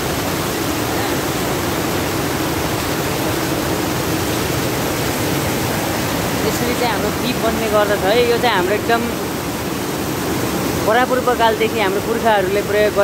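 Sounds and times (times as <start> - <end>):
river water rushing over slats: 0.0 - 13.0.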